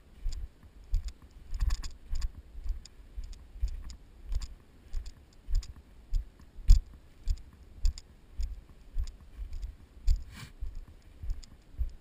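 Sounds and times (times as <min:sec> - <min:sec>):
footsteps on dry grass and snow: 0:00.0 - 0:12.0.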